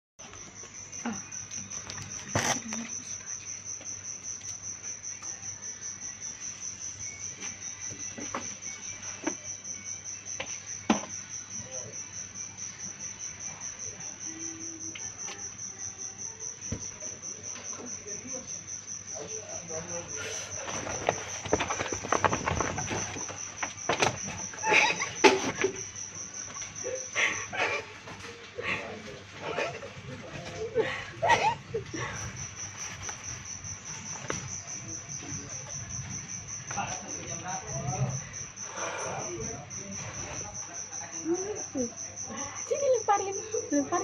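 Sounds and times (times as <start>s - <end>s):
cricket chirping: 0.2s - 44.0s.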